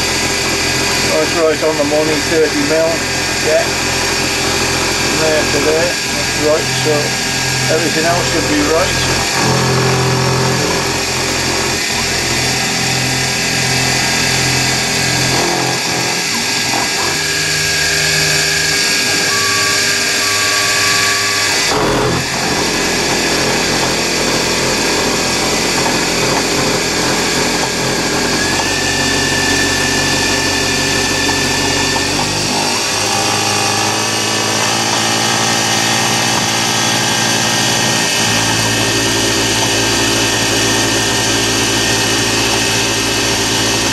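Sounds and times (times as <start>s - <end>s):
grinding of metal cutting: 0.0s - 43.9s
milling machine whine: 0.0s - 43.9s.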